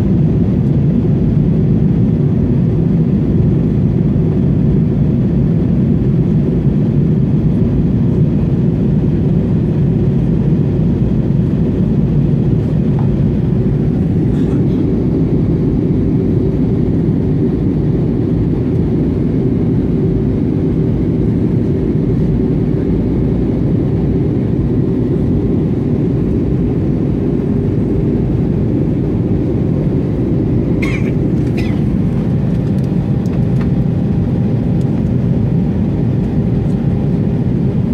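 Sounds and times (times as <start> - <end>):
airplane cabin roar: 0.0 - 37.9.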